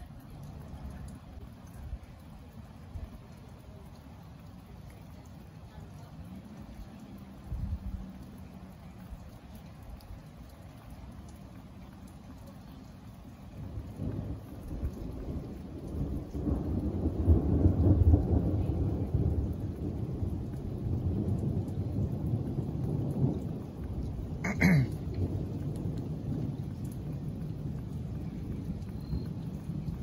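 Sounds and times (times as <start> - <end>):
rain falling: 0.0 - 30.0
rolling thunder rumble: 0.0 - 30.0.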